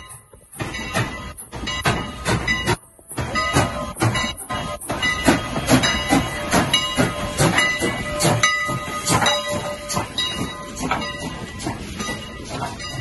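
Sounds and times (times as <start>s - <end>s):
hissing steam: 0.0s - 13.0s
steam locomotive beats: 0.0s - 13.0s.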